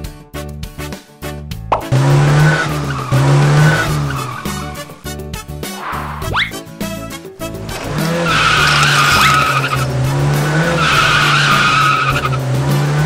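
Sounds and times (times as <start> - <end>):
car tyres screeching: 1.7 - 13.0.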